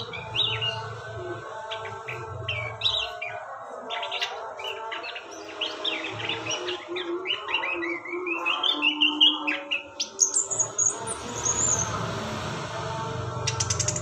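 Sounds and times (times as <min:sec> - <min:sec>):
songbird chirping: 0:00.0 - 0:12.4.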